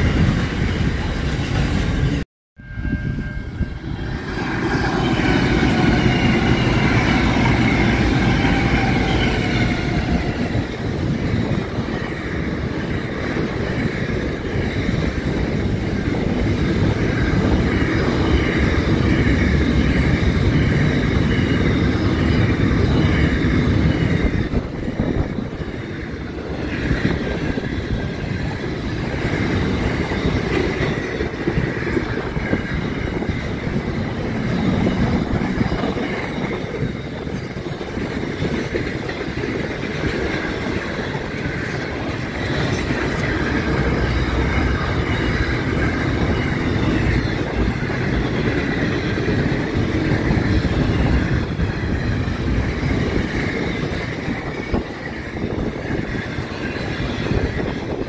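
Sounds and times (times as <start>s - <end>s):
locomotive high whine: 0.0s - 58.0s
train wheels on rails: 0.0s - 58.0s.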